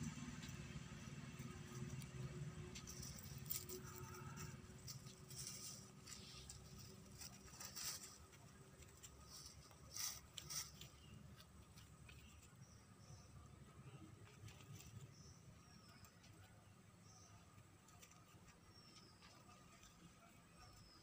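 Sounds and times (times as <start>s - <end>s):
faint rustles and scratches: 1.3s - 12.8s, 13.8s - 21.0s.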